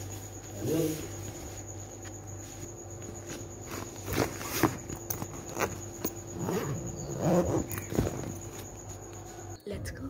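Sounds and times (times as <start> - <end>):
fabric rustling: 0.0 - 9.6.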